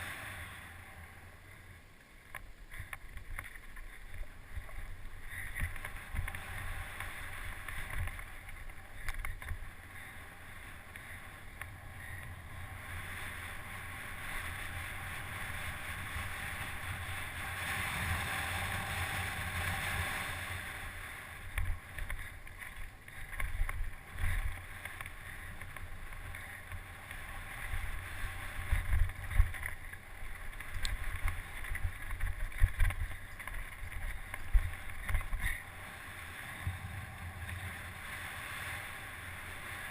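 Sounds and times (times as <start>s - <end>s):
wind rushing over microphone: 2.7s - 39.9s.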